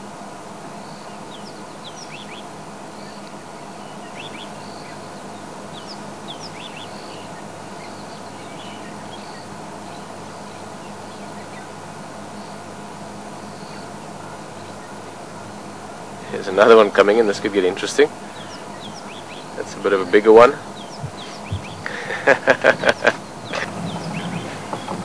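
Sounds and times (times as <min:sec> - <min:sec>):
birds chirping: 0:00.0 - 0:25.0
low hum and hiss: 0:00.0 - 0:25.0.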